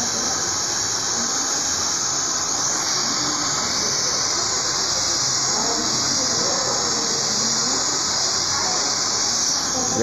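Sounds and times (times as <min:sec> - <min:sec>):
hair dryer blowing: 0:00.0 - 0:10.0.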